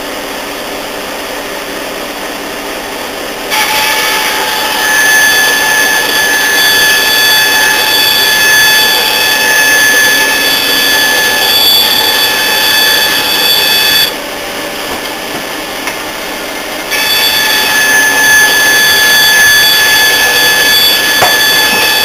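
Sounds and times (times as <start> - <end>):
bandsaw whine: 3.0 - 22.0.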